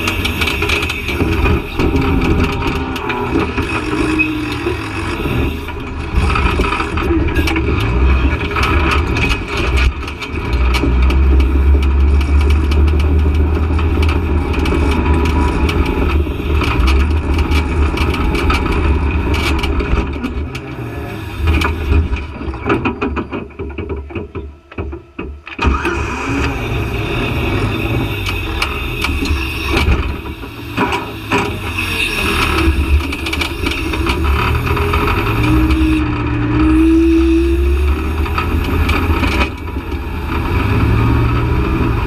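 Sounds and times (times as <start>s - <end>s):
off-road vehicle engine straining: 0.0s - 42.0s.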